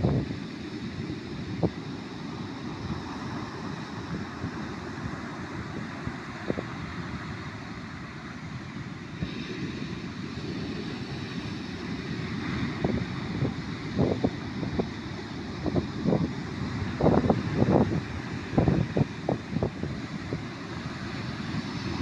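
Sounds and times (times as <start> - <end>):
ocean surf breaking on beach: 0.0 - 22.0
wind rumbling on microphone: 0.0 - 22.0.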